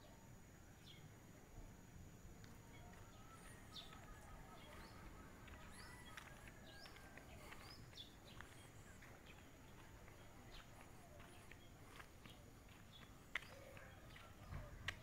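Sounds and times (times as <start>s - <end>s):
faint bird chirps: 2.4s - 15.0s.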